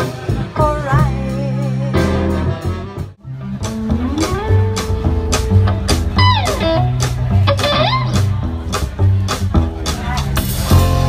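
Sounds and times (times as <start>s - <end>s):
electric guitar: 0.0s - 9.6s
drum kit: 0.0s - 11.0s
upright bass: 0.0s - 11.0s.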